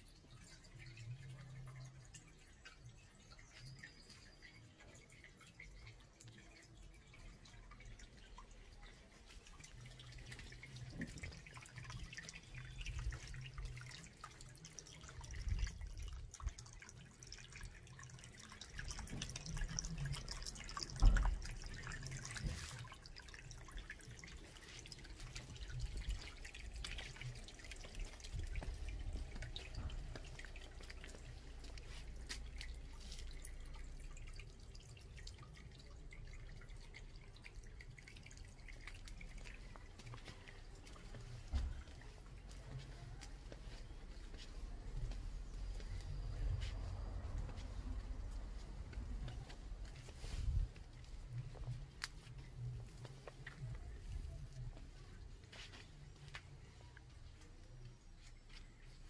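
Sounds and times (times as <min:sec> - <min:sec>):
water dripping and trickling: 0:00.0 - 0:59.0.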